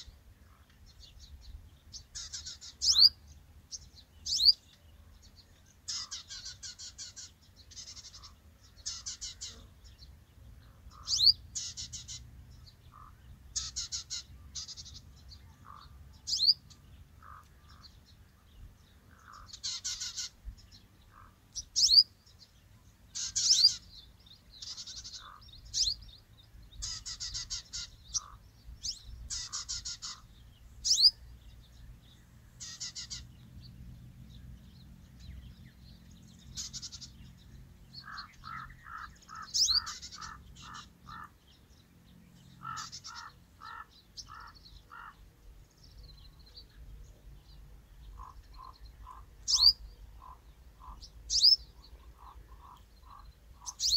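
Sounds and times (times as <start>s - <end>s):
birds chirping: 0.0s - 53.9s
evenly spaced low bird notes: 0.0s - 53.9s.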